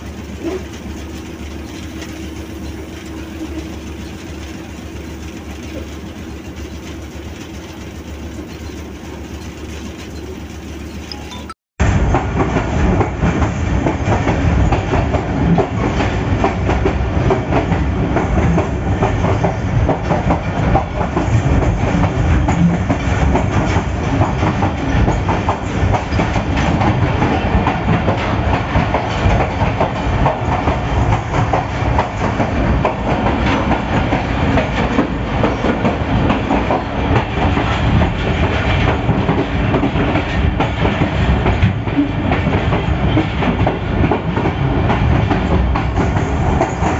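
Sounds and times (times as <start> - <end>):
locomotive running noise: 0.0 - 46.9
wheels clacking over rail joints: 0.0 - 46.9.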